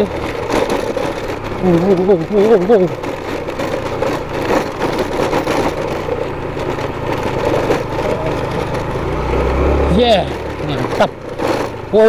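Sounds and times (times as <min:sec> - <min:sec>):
motorcycle engine running: 0:00.0 - 0:12.0
rough noise of riding on dirt: 0:00.0 - 0:12.0.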